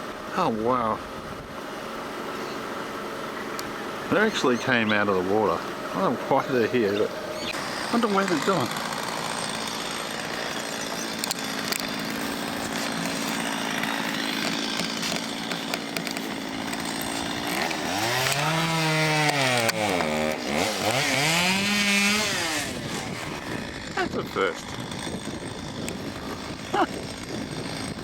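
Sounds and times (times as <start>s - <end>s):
small engine running and revving: 1.8s - 28.0s.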